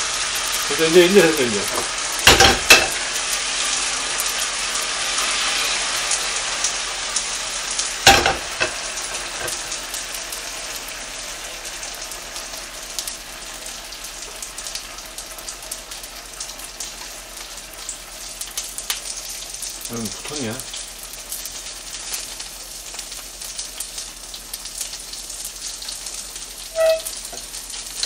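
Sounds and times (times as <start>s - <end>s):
paste sizzling in oil: 0.0s - 28.0s.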